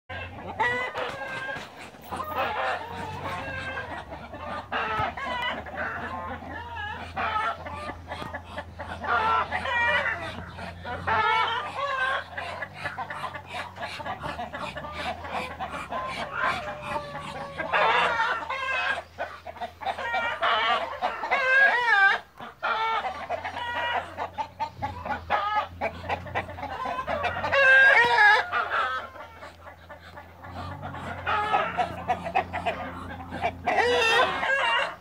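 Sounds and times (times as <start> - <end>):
chickens clucking: 0.1 - 35.0.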